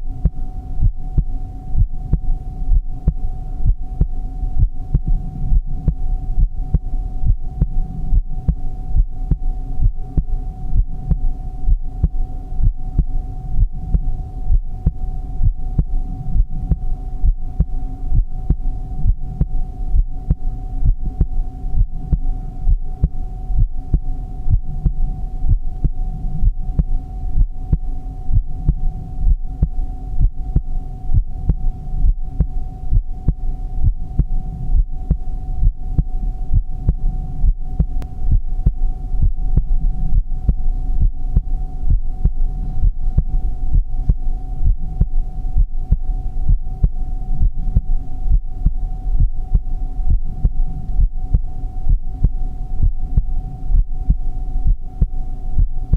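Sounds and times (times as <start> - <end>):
heartbeat thumps: 0.0 - 55.9
steady hum: 0.0 - 55.9.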